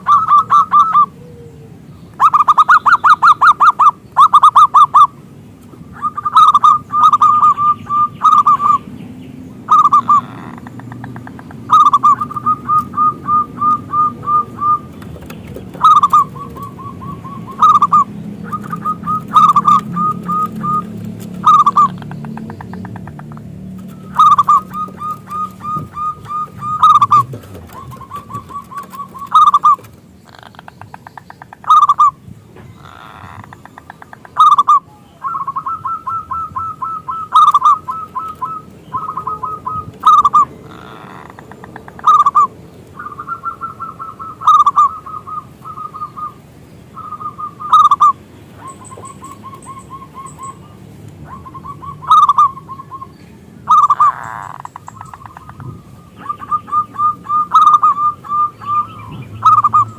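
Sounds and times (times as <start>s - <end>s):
dove cooing: 0.0s - 5.2s, 5.9s - 8.8s, 9.6s - 30.7s, 31.6s - 46.4s, 47.0s - 59.9s.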